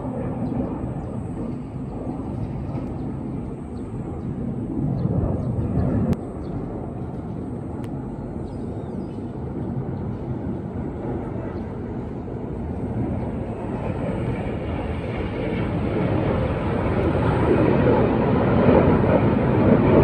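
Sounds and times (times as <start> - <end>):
jet engines rumbling overhead: 0.0 - 20.0.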